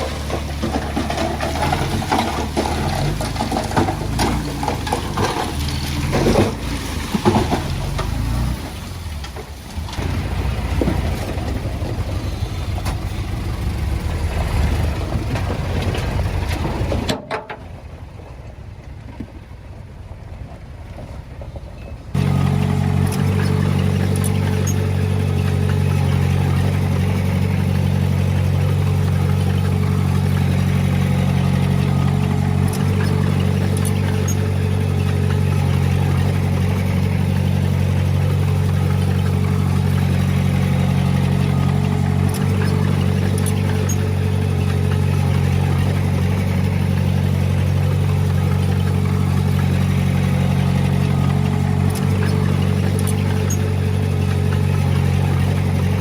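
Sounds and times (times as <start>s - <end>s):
heavy diesel engine droning: 0.0s - 19.1s, 20.0s - 56.0s
high engine whine: 0.0s - 56.0s.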